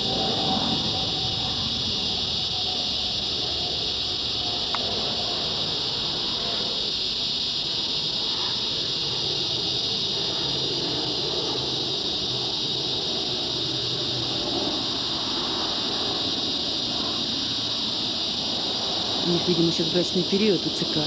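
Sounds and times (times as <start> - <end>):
cicadas buzzing: 0.0 - 21.0
jet plane rumble overhead: 0.0 - 21.0.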